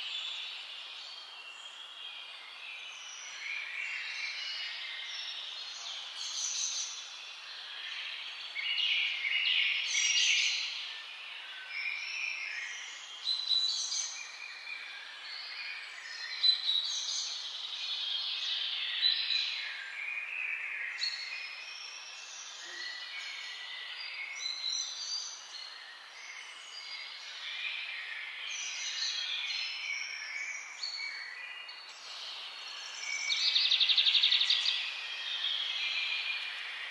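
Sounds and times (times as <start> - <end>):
birds chirping and twittering: 0.0 - 36.9.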